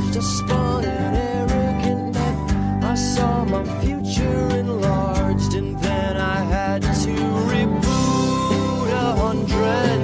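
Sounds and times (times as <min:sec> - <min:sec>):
song with sung vocals and beat: 0:00.0 - 0:10.0.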